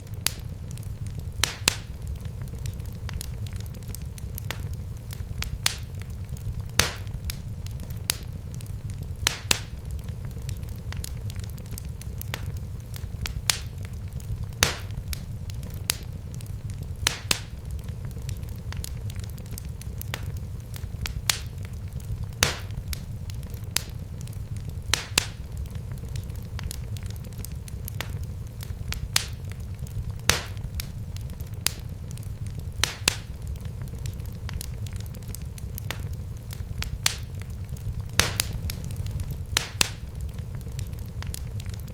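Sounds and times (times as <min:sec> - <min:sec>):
fire crackling: 0:00.0 - 0:41.9
low rumble of flames: 0:00.0 - 0:41.9
sharp pops of fire: 0:00.0 - 0:41.9.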